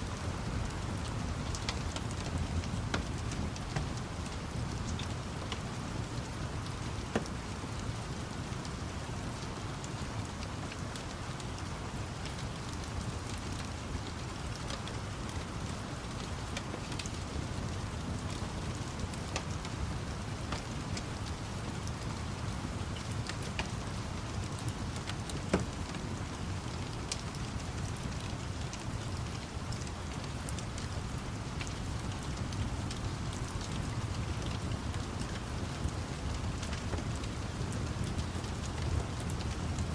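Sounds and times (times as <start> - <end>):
steady rainfall: 0.0 - 39.9
wood fire crackling: 0.0 - 39.9.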